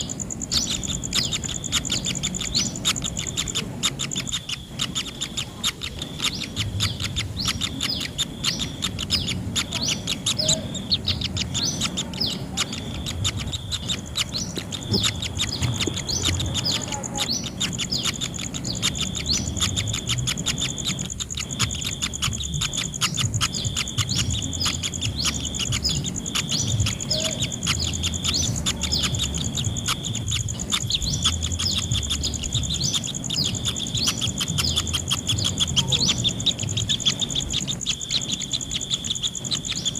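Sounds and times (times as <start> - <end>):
nestlings begging chirps: 0.0 - 39.9.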